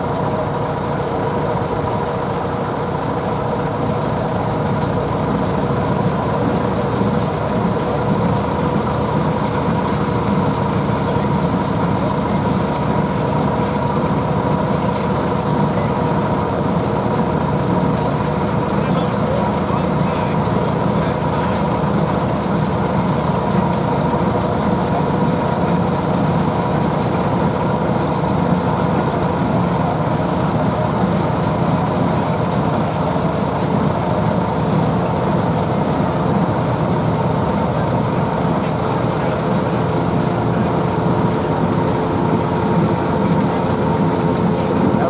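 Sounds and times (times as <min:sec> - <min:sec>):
threshing machine hum: 0:00.0 - 0:45.0.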